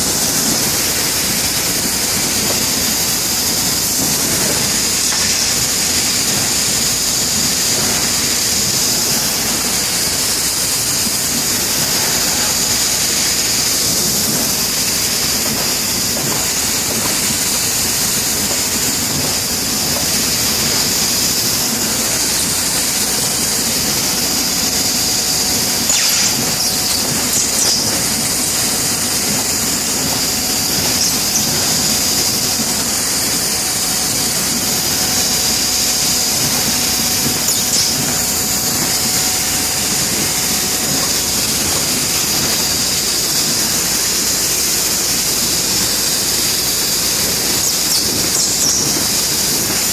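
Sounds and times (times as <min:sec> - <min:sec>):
laser cutting machine hissing: 0:00.0 - 0:49.9.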